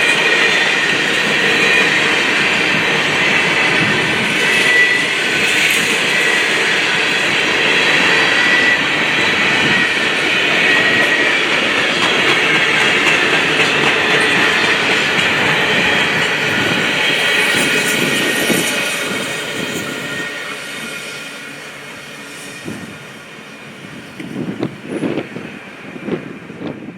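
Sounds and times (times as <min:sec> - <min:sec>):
freight train rumbling past: 0:00.0 - 0:26.9
train wheel squeal: 0:00.0 - 0:26.9.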